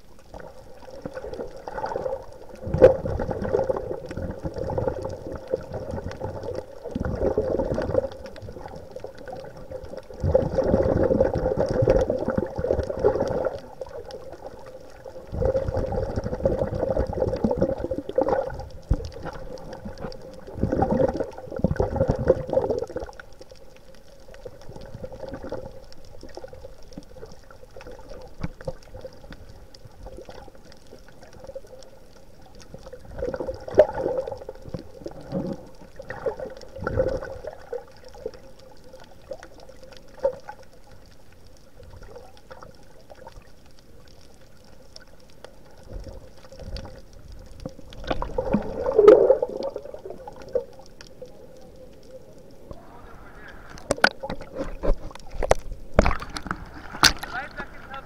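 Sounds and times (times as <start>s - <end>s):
faint steady hum: 0.0s - 58.0s
underwater bubbling and gurgling: 0.0s - 58.0s.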